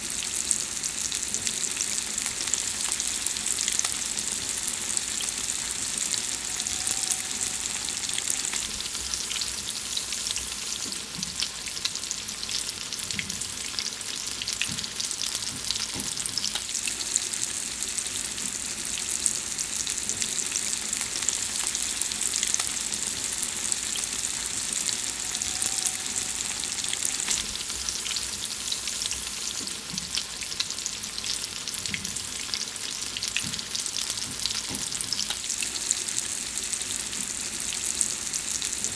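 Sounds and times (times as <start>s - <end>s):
food frying with crackles: 0.0s - 38.9s.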